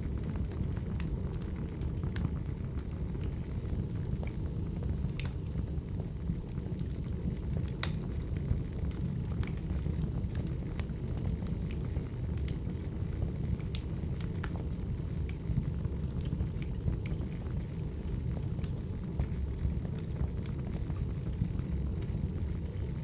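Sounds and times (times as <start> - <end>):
fire rumbling: 0.0 - 23.0
firewood crackling and popping: 0.0 - 23.0.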